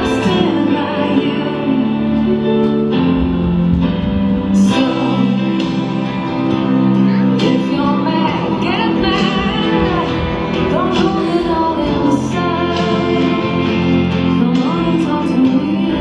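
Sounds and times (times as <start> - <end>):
song with singing: 0.0 - 16.0.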